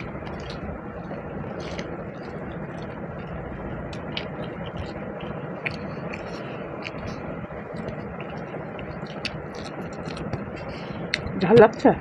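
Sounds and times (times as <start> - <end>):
people chewing food: 0.0 - 12.0
steady rushing noise: 0.0 - 12.0.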